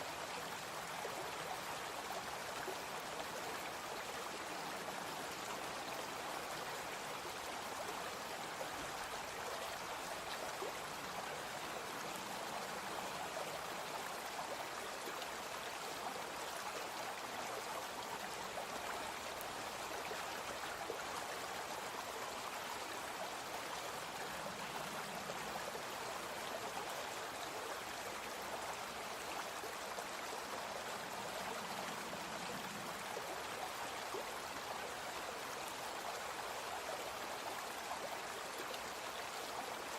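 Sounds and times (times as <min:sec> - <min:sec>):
brook flowing: 0:00.0 - 0:39.9.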